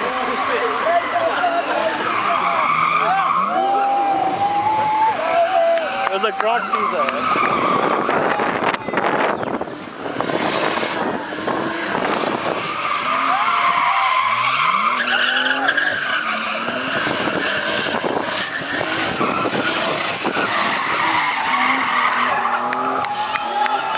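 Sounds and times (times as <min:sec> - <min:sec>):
tyres squealing: 0:00.0 - 0:08.2, 0:09.3 - 0:23.9
car engine revving: 0:00.0 - 0:23.9.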